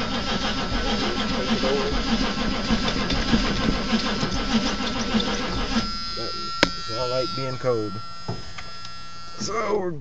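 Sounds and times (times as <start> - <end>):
diesel engine cranking: 0.0 - 10.0.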